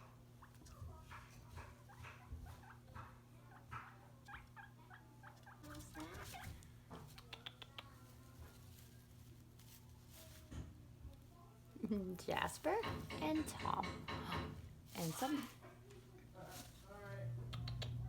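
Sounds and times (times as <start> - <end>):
guinea pigs chewing: 0.0 - 18.0.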